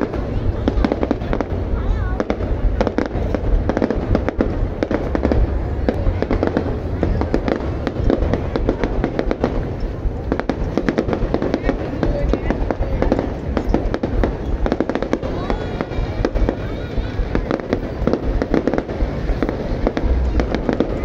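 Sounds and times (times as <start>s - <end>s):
fireworks crackling: 0.0s - 21.0s
low rumble: 0.0s - 21.0s.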